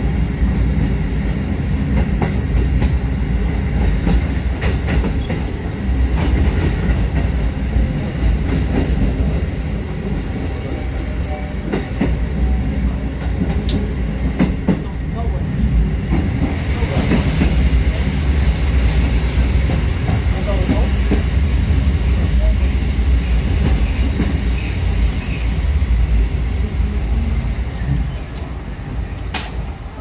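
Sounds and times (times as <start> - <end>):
electric train low rumble: 0.0 - 30.0.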